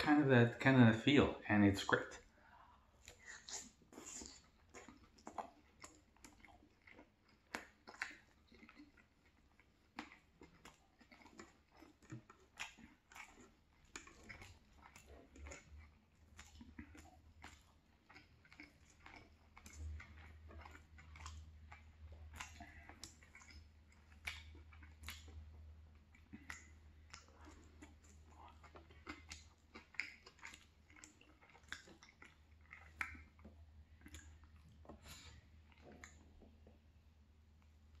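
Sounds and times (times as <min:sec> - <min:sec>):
person chewing: 0:02.2 - 0:38.0.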